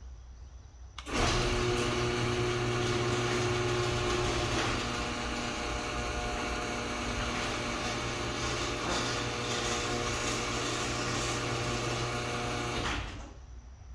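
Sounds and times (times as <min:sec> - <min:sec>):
garage door opener motor humming: 0:01.0 - 0:13.5.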